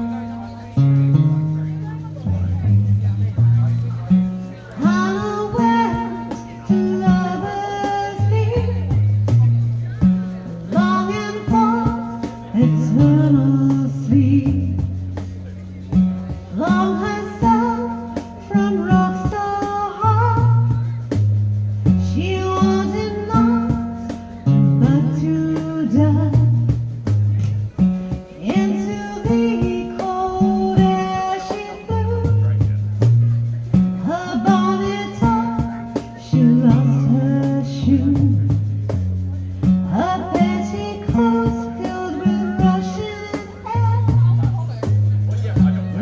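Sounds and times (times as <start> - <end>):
plucked strings: 0.0 - 46.0.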